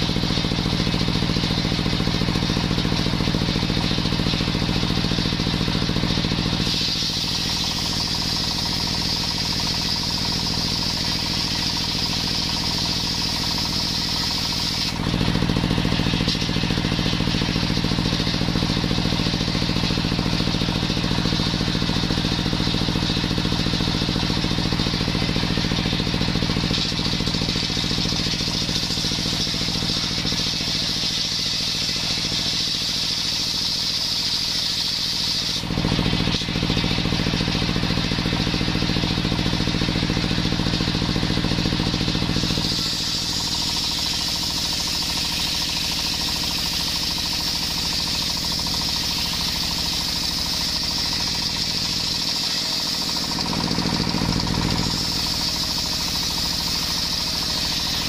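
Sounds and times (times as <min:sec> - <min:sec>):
saw blade cutting wood: 0:00.0 - 0:58.0
stationary engine running: 0:00.0 - 0:58.0.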